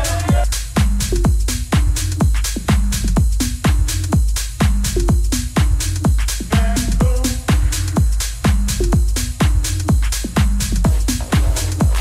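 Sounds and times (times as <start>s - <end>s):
kick drum: 0.0s - 12.0s.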